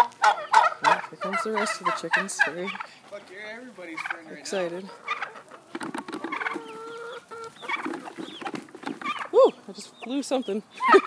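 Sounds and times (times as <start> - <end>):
chickens clucking: 0.0 - 11.0
turkeys gobbling: 0.0 - 11.0.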